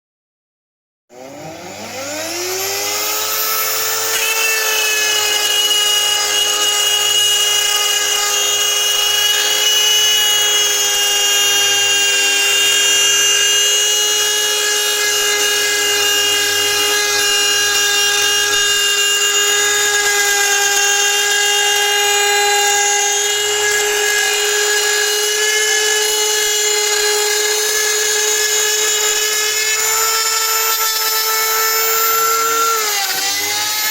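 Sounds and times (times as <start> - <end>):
milling machine motor whining: 1.1 - 33.9.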